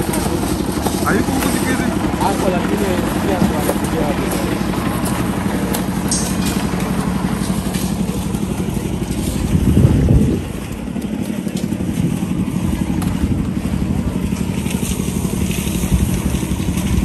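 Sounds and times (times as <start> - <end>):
concrete mixer engine running: 0.0 - 17.0.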